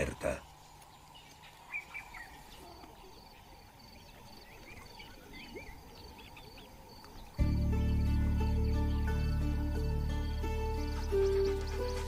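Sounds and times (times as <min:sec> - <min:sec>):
high chirping calls: 0:00.9 - 0:12.0.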